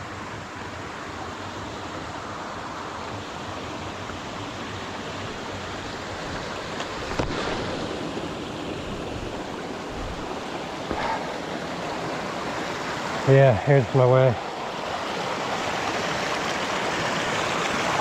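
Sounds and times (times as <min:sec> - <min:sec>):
creek water running over rocks: 0:00.0 - 0:18.0.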